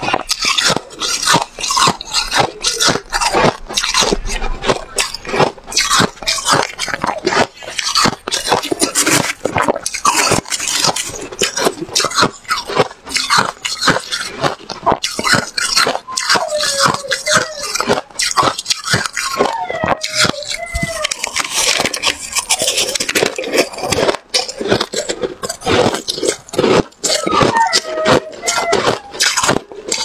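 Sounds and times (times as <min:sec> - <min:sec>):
chewing crunchy ice: 0:00.0 - 0:30.0.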